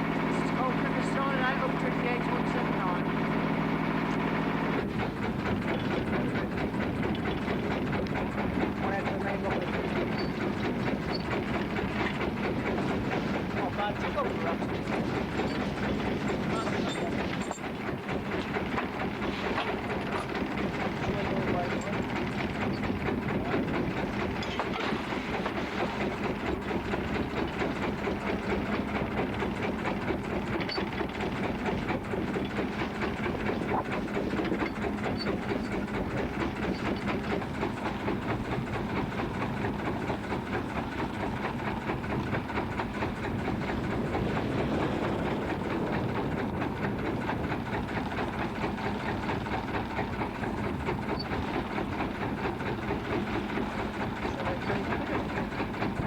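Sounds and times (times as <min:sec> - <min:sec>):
boat engine chugging: 0:00.0 - 0:56.0.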